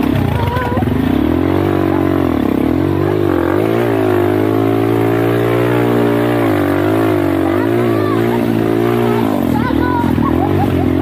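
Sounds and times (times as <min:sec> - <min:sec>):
atv engine running under load: 0:00.0 - 0:11.0.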